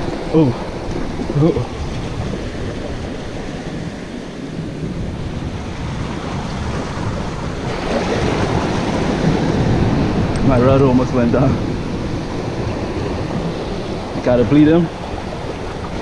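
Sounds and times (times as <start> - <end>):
surf washing against rocks: 0.0 - 16.0
wind rumbling on microphone: 0.0 - 16.0.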